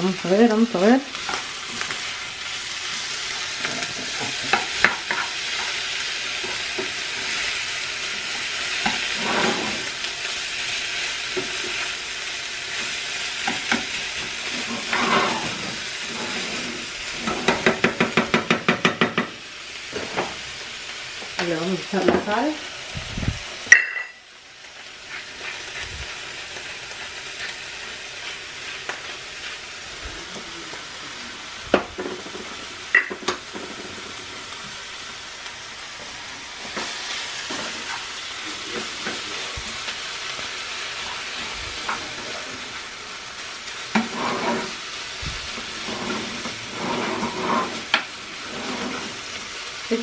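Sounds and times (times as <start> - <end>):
meat sizzling in a skillet: 0.0 - 50.0.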